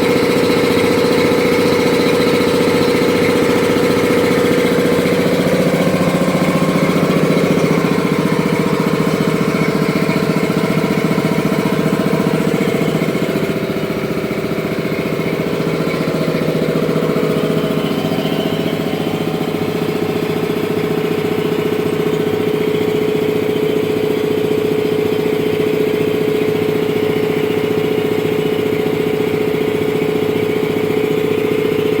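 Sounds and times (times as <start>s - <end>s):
air compressor running: 0.0s - 32.0s.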